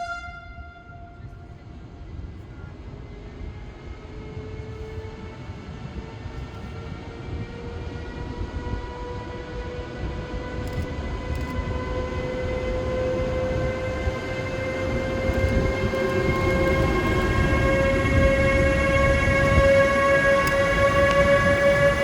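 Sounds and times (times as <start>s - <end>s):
locomotive whine: 0.0s - 22.0s
train rumble: 0.0s - 22.0s.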